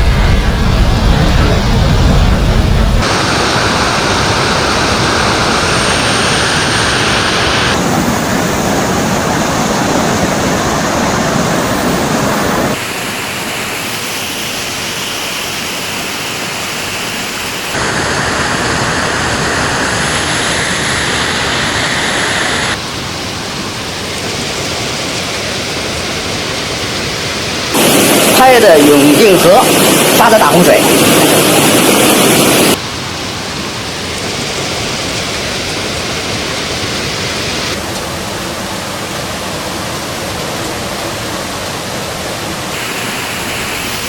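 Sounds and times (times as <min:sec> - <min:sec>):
floodwater rushing: 0:00.0 - 0:21.7, 0:22.4 - 0:44.0.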